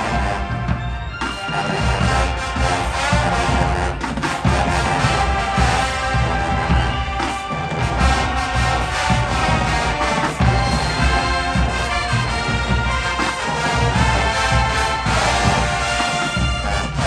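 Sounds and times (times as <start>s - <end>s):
bass drums beating: 0.0s - 17.0s
marching band brass: 0.0s - 17.0s.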